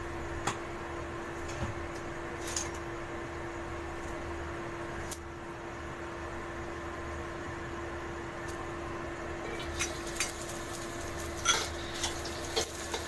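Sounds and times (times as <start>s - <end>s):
kitchen hum: 0.0s - 13.0s.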